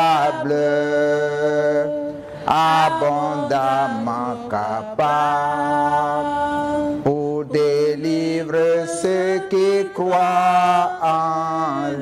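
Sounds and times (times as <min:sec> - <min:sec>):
man singing gospel solo: 0:00.0 - 0:06.4, 0:07.0 - 0:12.0.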